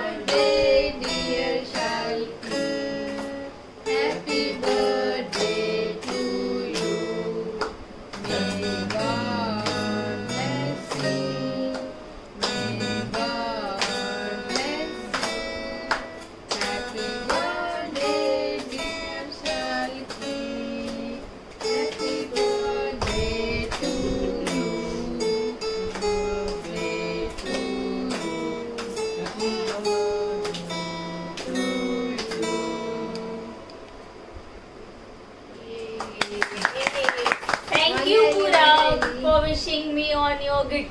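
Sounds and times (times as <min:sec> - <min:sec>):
person singing: 0:00.0 - 0:03.2, 0:03.9 - 0:33.8
acoustic guitar: 0:00.0 - 0:34.2.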